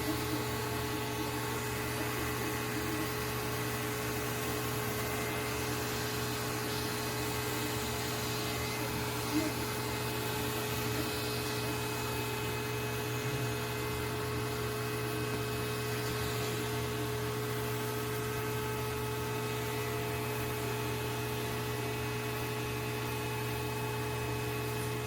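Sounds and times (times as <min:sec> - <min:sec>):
vacuum motor humming and whining: 0:00.0 - 0:25.0.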